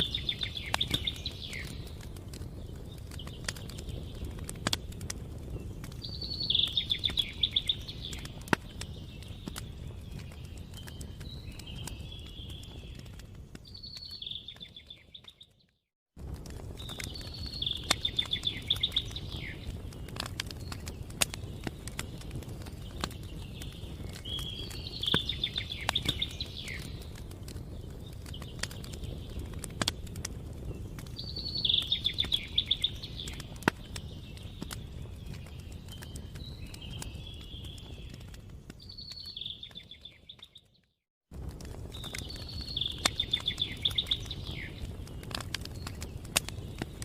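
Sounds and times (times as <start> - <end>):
outdoor background noise: 0.0 - 15.6, 16.2 - 47.0
songbird singing: 0.0 - 15.8, 16.6 - 41.0, 41.8 - 47.0.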